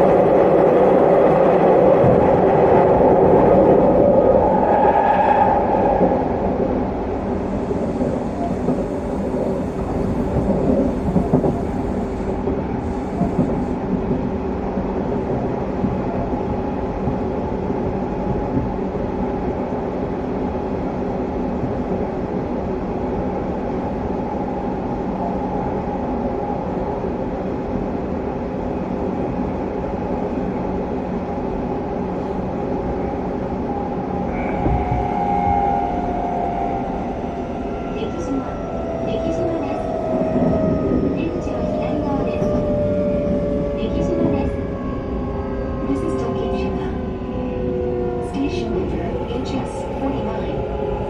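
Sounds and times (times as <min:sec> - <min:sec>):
rail and wheel noise: 0:00.0 - 0:51.0.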